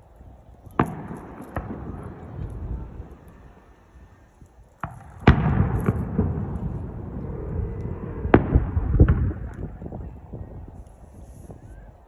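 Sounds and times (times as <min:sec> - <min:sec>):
fireworks bursting with bangs: 0:00.6 - 0:11.9
rumbling echoes: 0:00.8 - 0:10.6.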